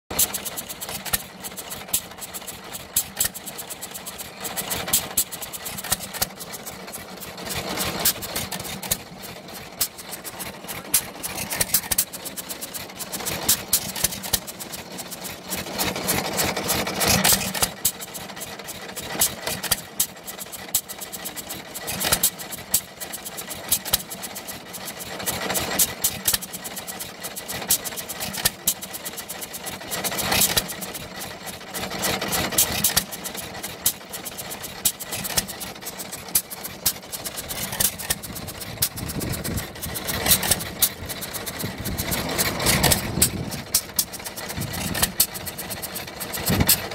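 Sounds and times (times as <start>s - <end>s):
stationary gas engine running: 0.0s - 46.9s
sharp exhaust pops: 0.1s - 18.2s, 25.2s - 46.9s.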